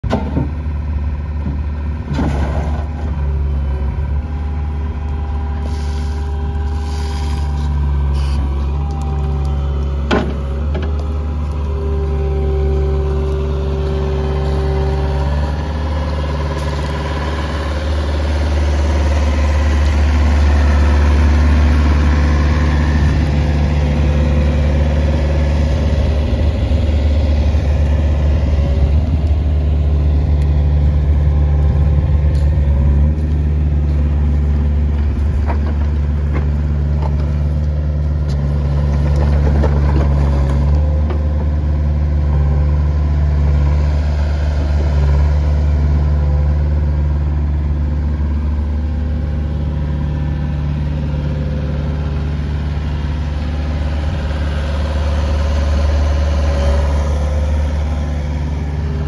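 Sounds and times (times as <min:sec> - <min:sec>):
diesel engine idling: 0:02.8 - 0:59.0.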